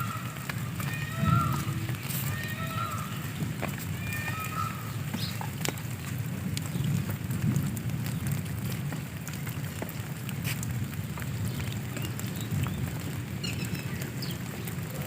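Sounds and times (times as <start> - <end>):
rainwater rushing: 0.0 - 15.0.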